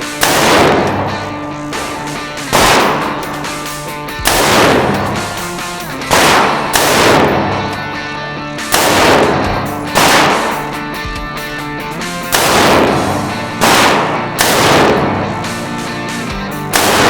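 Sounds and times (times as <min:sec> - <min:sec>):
background music: 0:00.0 - 0:17.0
gunshots with echo: 0:00.0 - 0:17.0.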